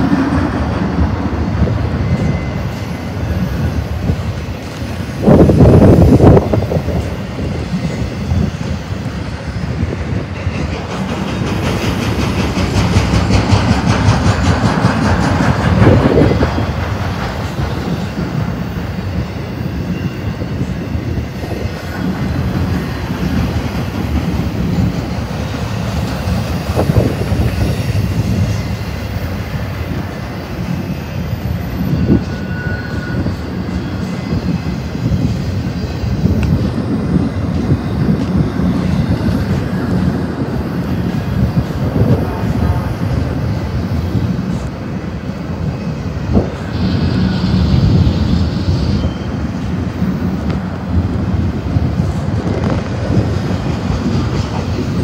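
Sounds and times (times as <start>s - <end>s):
train wheels rumbling and rattling: 0.0s - 55.0s.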